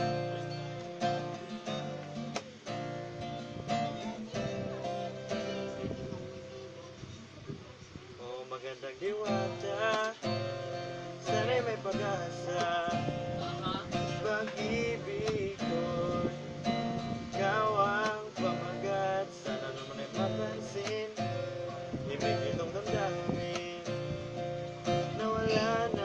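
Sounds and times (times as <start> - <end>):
man singing: 0.0 - 2.8, 3.7 - 6.9, 8.2 - 26.0
classical guitar strumming chords: 0.0 - 26.0.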